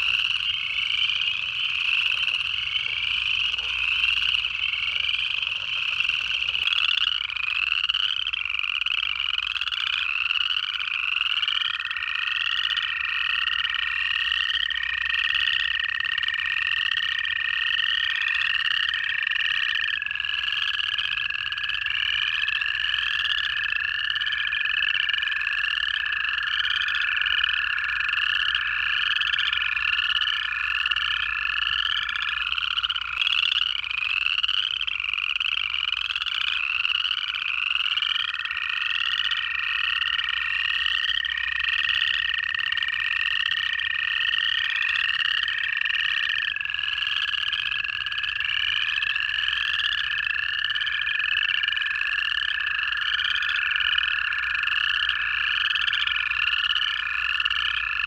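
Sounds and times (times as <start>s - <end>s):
frogs giving rising trills: 0.0s - 58.0s
low chuckling of frogs: 0.0s - 58.0s
toads long steady trills: 0.0s - 58.0s.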